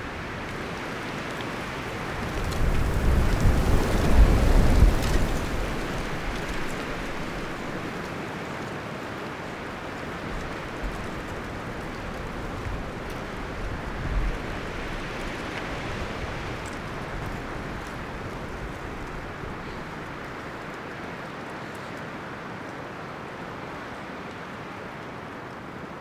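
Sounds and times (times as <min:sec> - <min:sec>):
wind rustling leaves and branches: 0:00.0 - 0:26.0.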